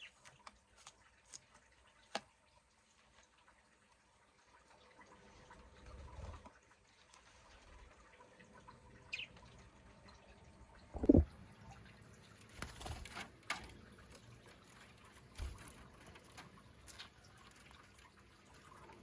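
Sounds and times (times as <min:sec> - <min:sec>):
liquid trickling: 0:00.0 - 0:19.0.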